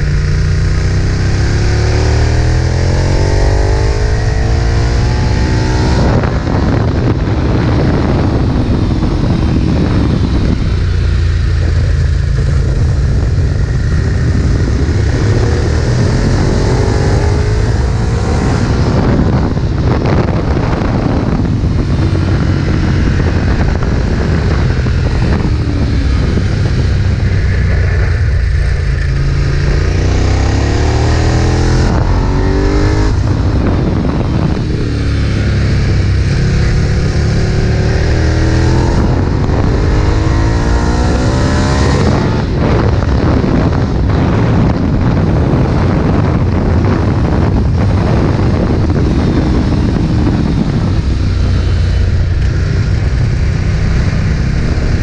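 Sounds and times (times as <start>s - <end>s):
motorcycle engine at full throttle: 0.0s - 55.0s.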